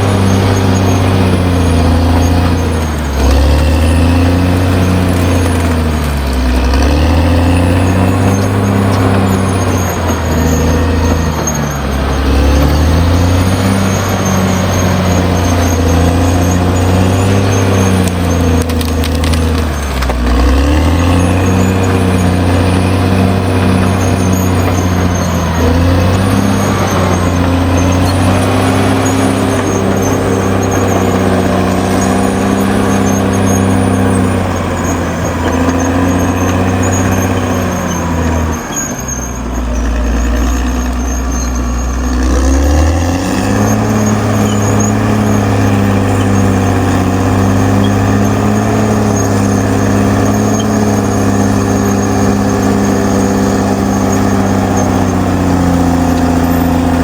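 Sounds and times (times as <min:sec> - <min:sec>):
bulldozer diesel engine running: 0:00.0 - 0:57.0
thin high-pitched squeal: 0:00.0 - 0:57.0.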